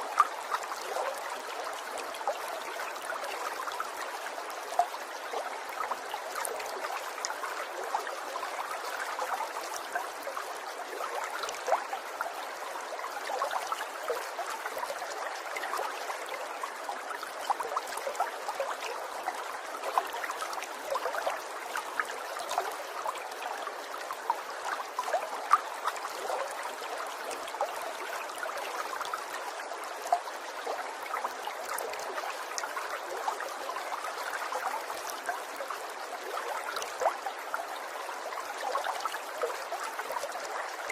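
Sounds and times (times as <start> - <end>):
stream trickling and babbling: 0.0 - 40.9
water splashes and drips: 0.0 - 40.9.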